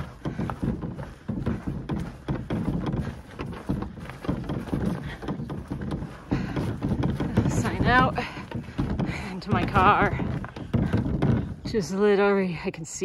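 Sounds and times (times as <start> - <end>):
footsteps on leaf-covered dirt road: 0.0 - 11.9.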